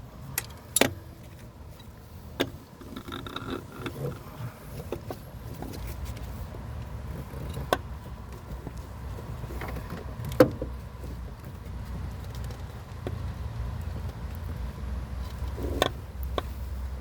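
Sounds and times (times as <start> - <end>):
low background rumble: 0.0 - 17.0
engine parts clicking and knocking: 0.2 - 17.0.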